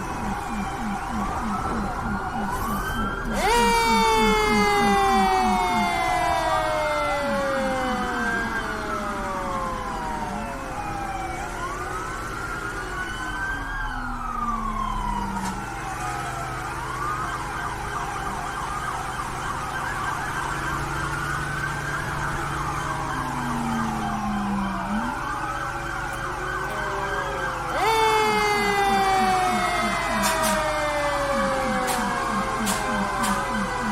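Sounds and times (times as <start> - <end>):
emergency sirens wailing: 0.0 - 33.9
loud multi-tone siren: 0.0 - 33.9.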